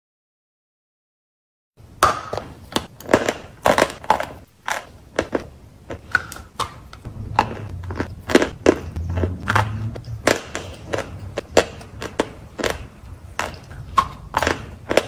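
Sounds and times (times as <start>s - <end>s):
chalk crunching while chewed: 2.7s - 15.0s.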